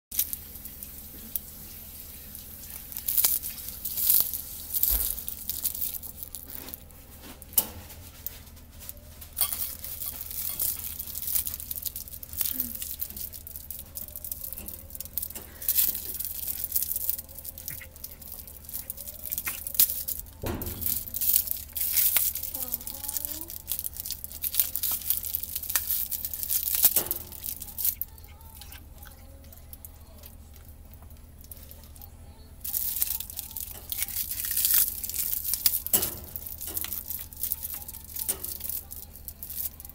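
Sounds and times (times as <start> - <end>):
foil gift bow crinkling: 0.1 - 39.9.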